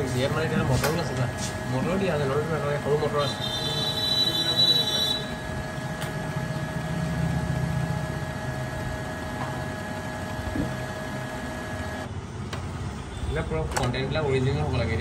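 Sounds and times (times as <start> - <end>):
printer motor whining hum: 0.0 - 12.8.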